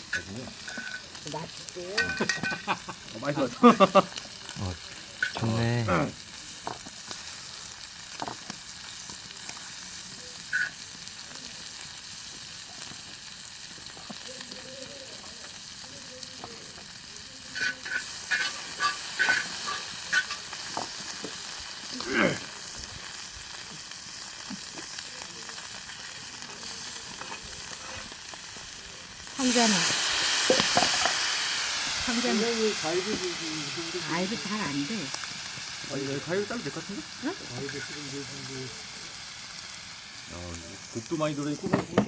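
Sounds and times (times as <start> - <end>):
meat sizzling on pot lid: 0.0 - 42.0.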